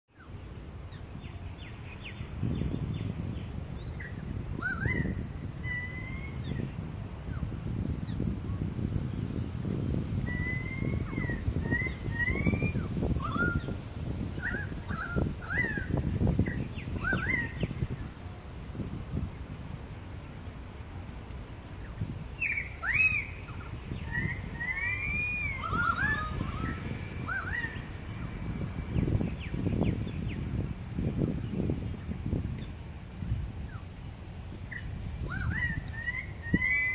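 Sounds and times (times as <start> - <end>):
birds calling: 0.1 - 8.4, 10.3 - 18.2, 21.8 - 36.9.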